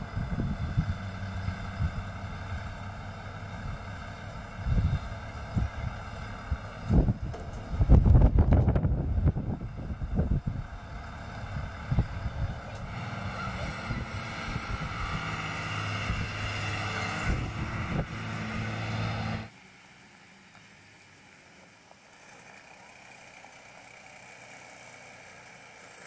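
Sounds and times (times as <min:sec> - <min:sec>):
motor running with steady drone: 0:00.0 - 0:26.0.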